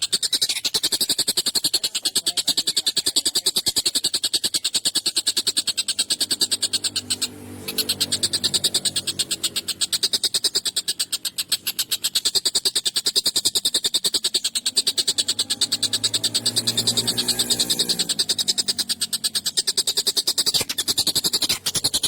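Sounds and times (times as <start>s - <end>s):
kingfisher harsh chattering call: 0.0s - 22.0s.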